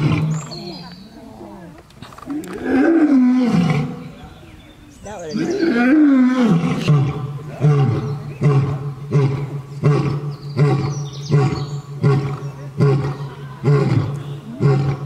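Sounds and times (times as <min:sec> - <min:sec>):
lion roaring and grunting: 0:00.0 - 0:04.0, 0:05.4 - 0:15.0.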